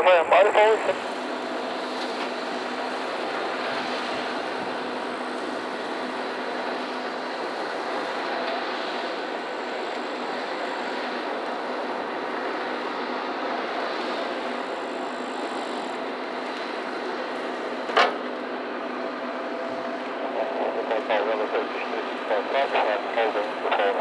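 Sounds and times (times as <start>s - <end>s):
jetliner steady jet hiss: 0.0s - 24.0s.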